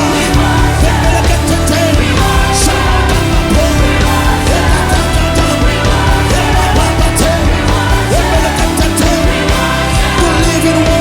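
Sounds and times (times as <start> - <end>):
drum beat: 0.0 - 11.0
live worship band music: 0.0 - 11.0.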